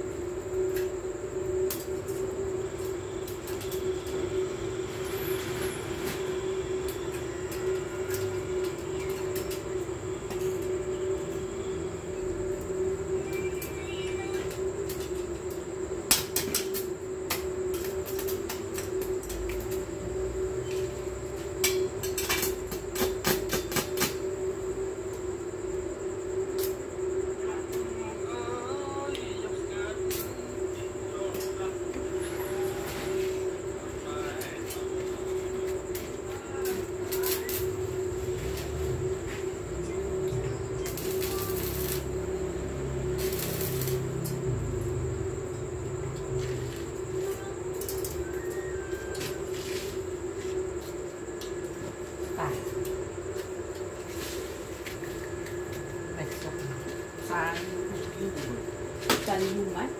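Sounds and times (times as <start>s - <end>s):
arc welding buzz and crackle: 0.0s - 59.9s.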